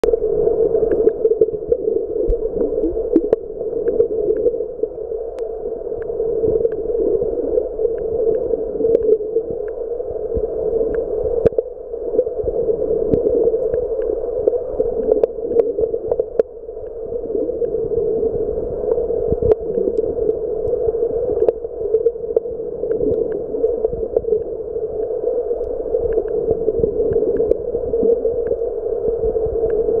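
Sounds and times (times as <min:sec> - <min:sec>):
dull underwater hum: 0:00.0 - 0:30.0.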